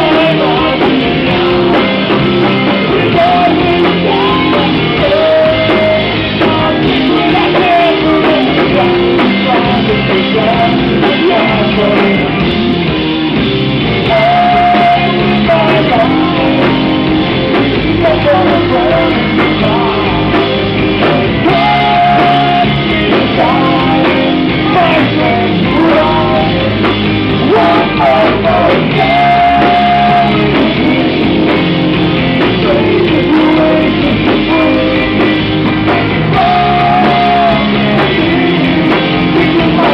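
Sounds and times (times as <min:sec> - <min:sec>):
person singing: 0:00.0 - 0:12.4, 0:14.0 - 0:35.4, 0:36.0 - 0:39.9
rock band playing live: 0:00.0 - 0:39.9.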